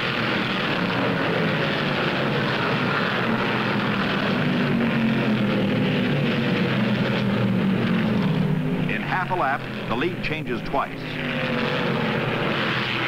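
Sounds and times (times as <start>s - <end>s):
racing car engines droning: 0.0s - 13.0s.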